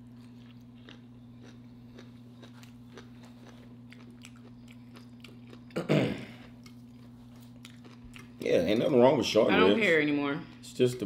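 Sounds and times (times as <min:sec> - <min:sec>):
chewing food: 0:00.0 - 0:09.0
low electrical hum: 0:00.0 - 0:11.0.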